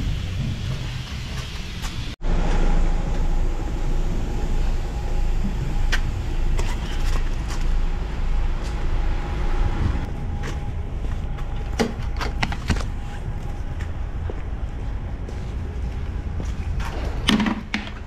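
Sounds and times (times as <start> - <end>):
truck engine and road drone: 0.0 - 18.0.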